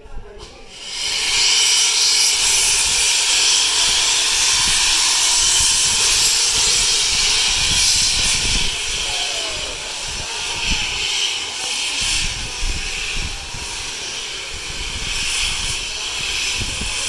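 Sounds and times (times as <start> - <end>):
steam locomotive hissing steam: 0.4 - 17.0.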